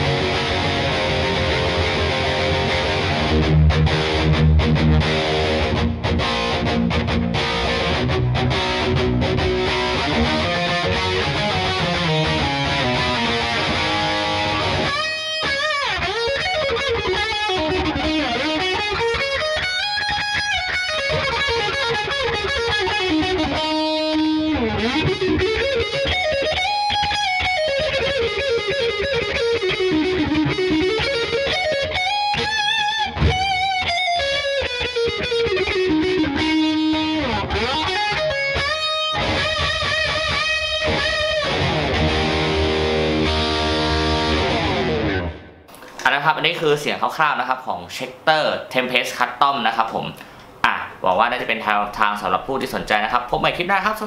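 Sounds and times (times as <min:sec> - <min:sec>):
distorted electric guitar runs: 0:00.0 - 0:45.6.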